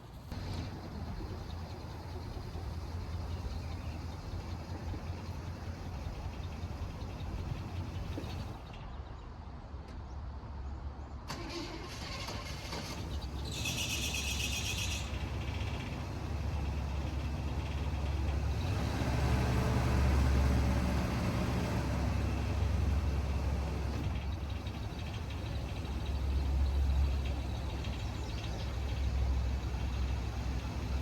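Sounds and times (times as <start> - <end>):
truck engine idling: 0.0 - 8.6, 11.4 - 31.0.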